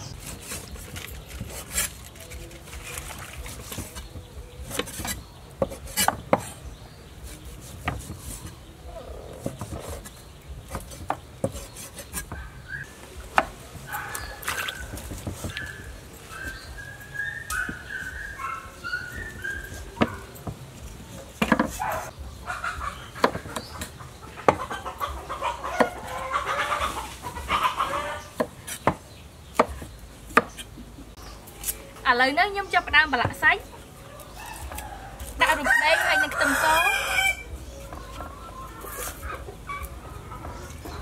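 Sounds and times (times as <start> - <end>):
chickens clucking: 1.6 - 31.6, 32.6 - 41.0.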